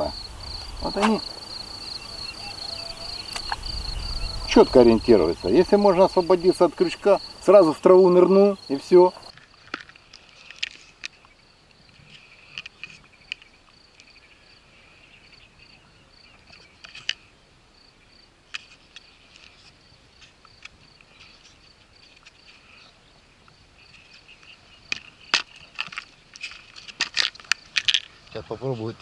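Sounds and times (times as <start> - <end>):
insect chirping: 0.0 - 29.0.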